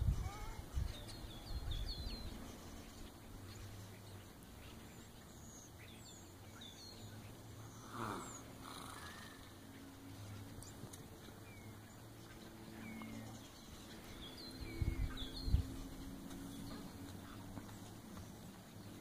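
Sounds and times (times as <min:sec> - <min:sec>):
distant birds chirping: 0:00.0 - 0:19.0
low wind rumble: 0:00.0 - 0:19.0.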